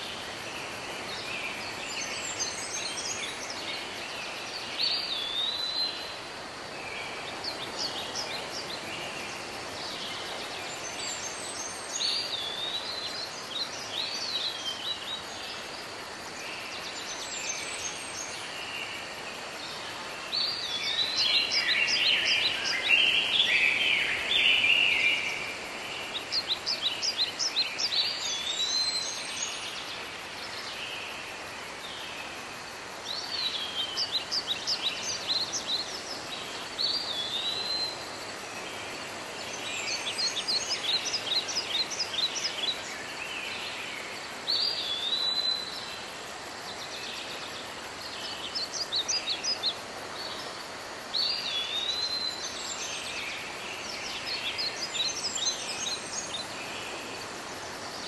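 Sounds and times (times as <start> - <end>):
background hiss: 0.0 - 58.0
songbird singing: 0.0 - 58.0.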